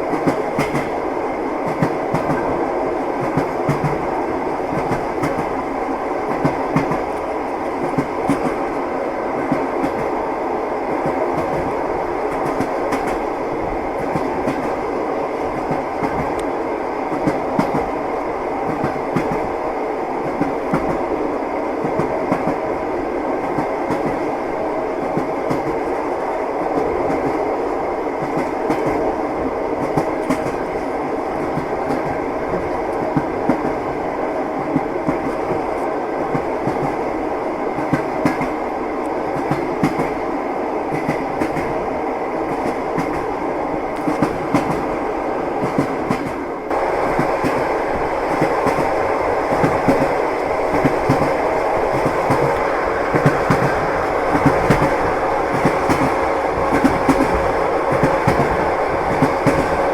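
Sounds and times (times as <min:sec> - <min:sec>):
wheels clacking on rails: 0:00.0 - 0:08.8, 0:10.9 - 0:19.6, 0:20.2 - 0:21.1, 0:21.8 - 0:27.6, 0:28.2 - 0:34.0, 0:34.6 - 0:40.2, 0:40.9 - 0:59.9
train rumbling inside carriage: 0:00.0 - 0:59.9.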